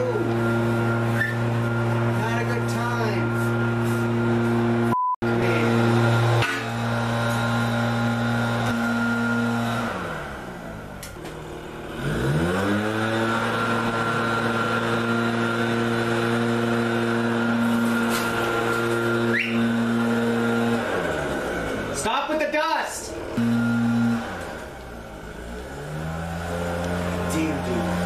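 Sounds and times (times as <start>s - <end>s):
electric motor humming: 0.0s - 22.0s, 23.1s - 28.0s.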